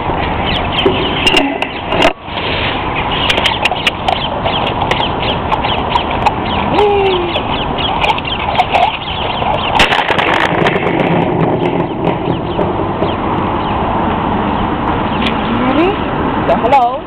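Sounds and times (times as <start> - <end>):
birds chirping: 0.0 - 17.0
outdoor noise rush: 0.0 - 17.0.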